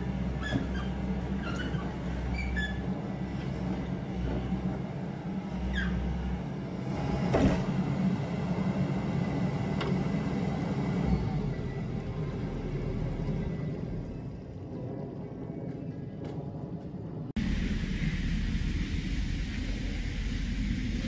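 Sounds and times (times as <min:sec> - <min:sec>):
diesel engine running: 0:00.0 - 0:15.3, 0:17.4 - 0:21.0.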